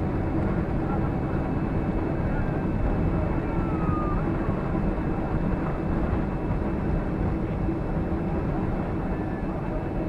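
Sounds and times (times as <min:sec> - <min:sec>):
airplane engines rumbling in cabin: 0:00.0 - 0:10.0.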